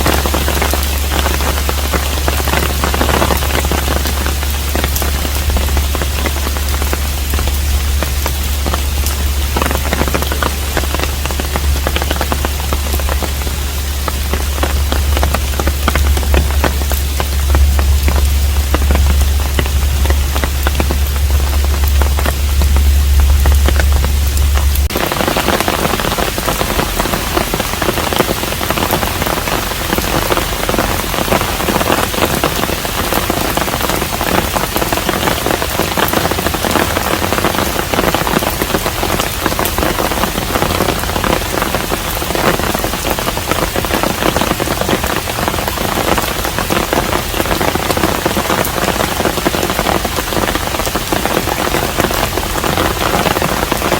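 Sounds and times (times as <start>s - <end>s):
low steady hum: 0.0s - 53.9s
steady rain falling: 0.0s - 53.9s.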